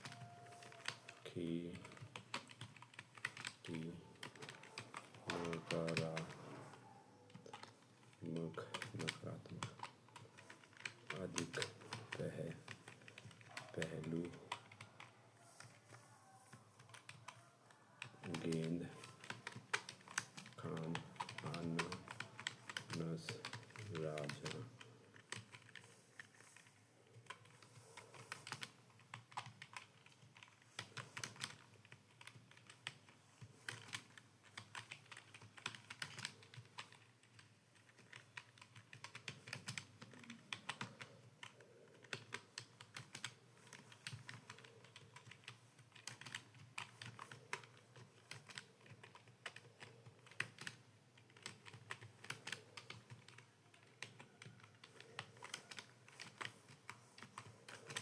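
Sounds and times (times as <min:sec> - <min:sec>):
computer keyboard typing: 0:00.0 - 0:58.0.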